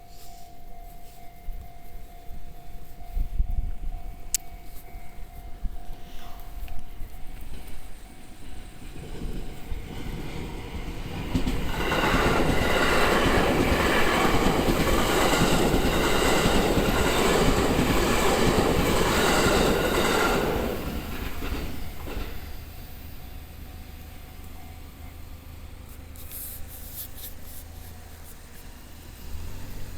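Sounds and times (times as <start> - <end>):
train rumbling past: 0.0 - 29.9.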